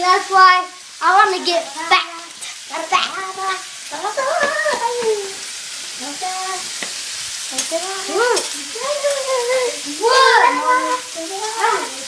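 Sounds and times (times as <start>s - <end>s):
children's voices: 0.0s - 5.4s, 6.0s - 6.8s, 7.5s - 12.0s
food sizzling in a frying pan: 0.0s - 12.0s.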